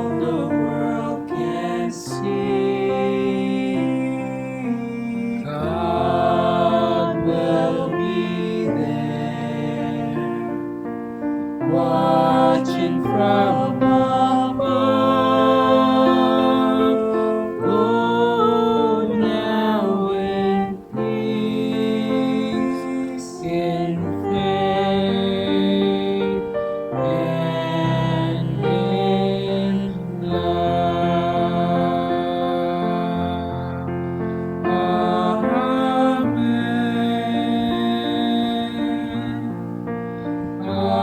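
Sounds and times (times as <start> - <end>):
singing voices: 0.0 - 41.0
sustained piano chords: 0.0 - 41.0.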